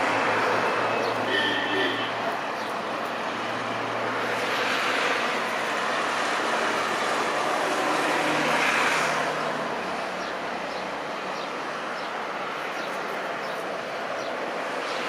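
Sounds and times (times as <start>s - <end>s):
jet airliner engine noise: 2.2s - 15.0s.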